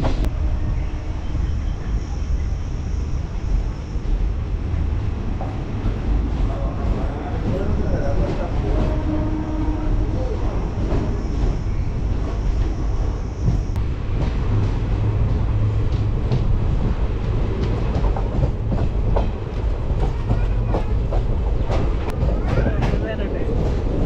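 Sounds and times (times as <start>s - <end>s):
train coaches rumbling: 0.0s - 24.0s.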